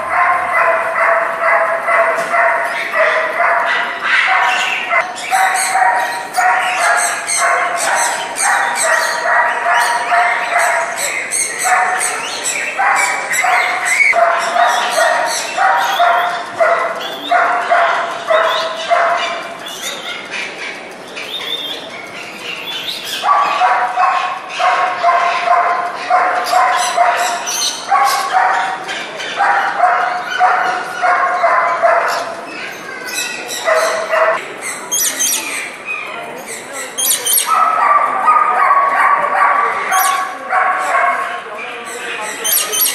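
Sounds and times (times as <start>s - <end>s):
animal yapping: 0.0s - 20.6s, 22.4s - 42.9s.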